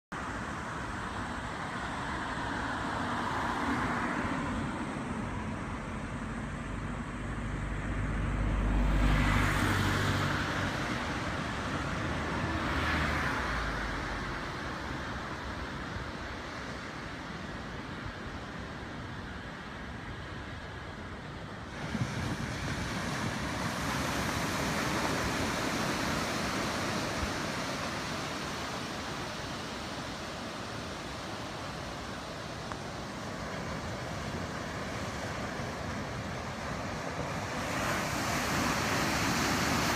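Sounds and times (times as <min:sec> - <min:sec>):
waves breaking on beach: 0:00.1 - 0:39.9.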